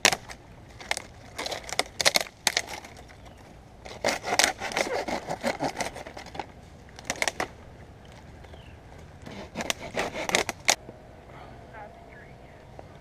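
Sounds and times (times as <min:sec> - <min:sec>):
sharp crack: 0:00.0 - 0:10.8
vines crackling against bark: 0:00.0 - 0:10.8.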